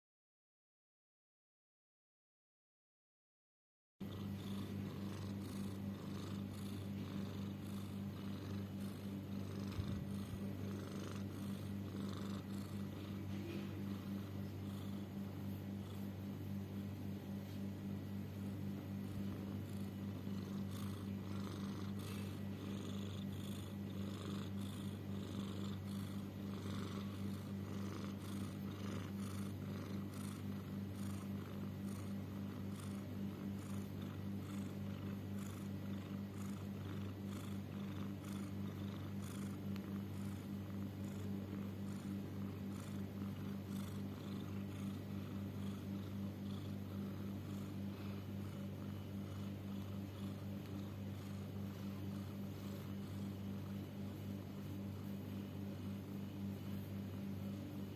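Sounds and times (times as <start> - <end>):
cat purr-like breathing: 4.0 - 57.9.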